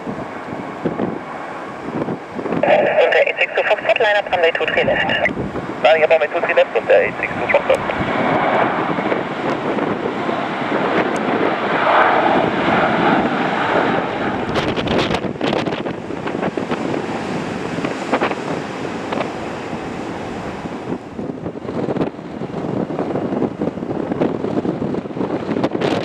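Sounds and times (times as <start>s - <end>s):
jet engine rushing: 0.0s - 26.0s
wind buffeting microphone: 0.0s - 26.0s.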